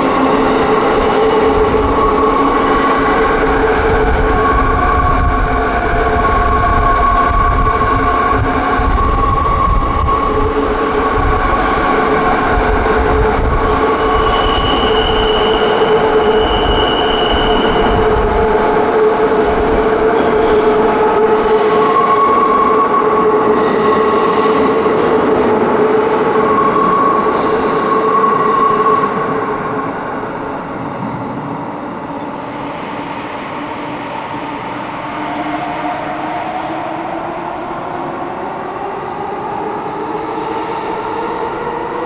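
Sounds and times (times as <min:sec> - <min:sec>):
train wheel squeal: 0:00.0 - 0:29.9, 0:32.2 - 0:42.0.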